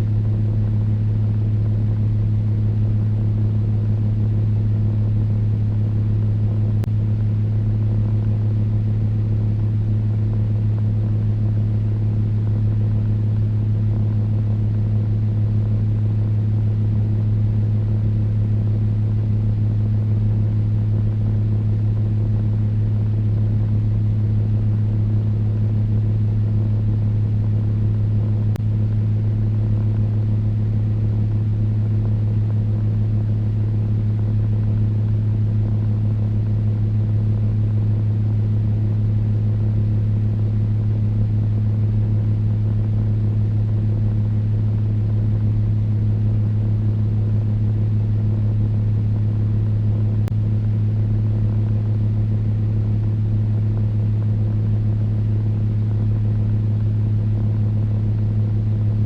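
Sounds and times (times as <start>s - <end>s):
electric fan running: 0.0s - 59.0s.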